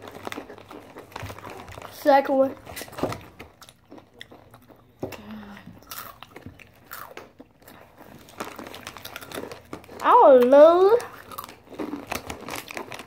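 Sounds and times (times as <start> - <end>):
chips being bitten and chewed: 0.0 - 13.0.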